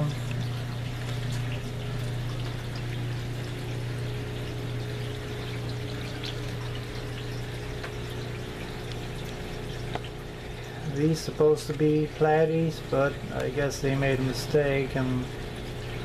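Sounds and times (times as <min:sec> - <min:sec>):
low pump hum: 0:00.0 - 0:16.0
water trickling and splashing: 0:00.0 - 0:16.0.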